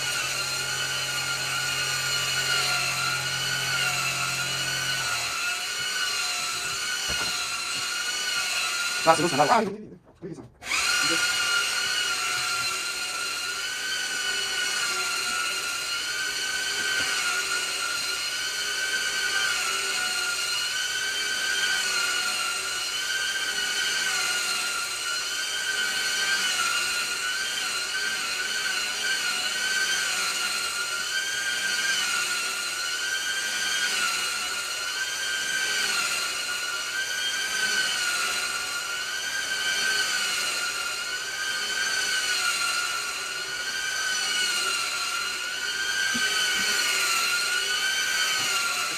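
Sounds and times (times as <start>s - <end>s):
vacuum cleaner motor whine: 0.0s - 9.8s, 10.5s - 48.9s.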